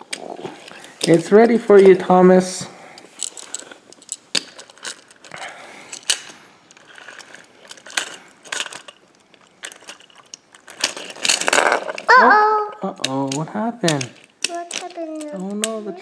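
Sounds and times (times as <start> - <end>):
toy trains clicking and knocking: 0.0 - 16.0.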